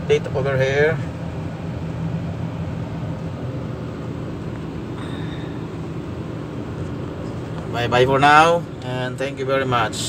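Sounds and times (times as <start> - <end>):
crane engine idling: 0.0 - 9.3.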